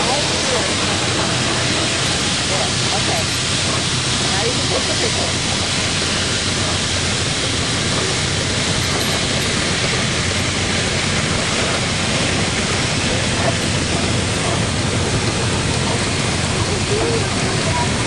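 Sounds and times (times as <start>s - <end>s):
low engine rumble: 0.0s - 18.0s
steam engine hissing: 0.0s - 18.0s.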